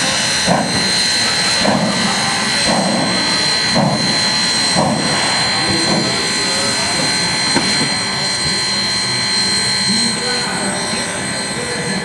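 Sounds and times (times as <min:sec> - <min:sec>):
rhythmic steam beat: 0:00.0 - 0:12.0
steam locomotive hissing: 0:00.0 - 0:12.0.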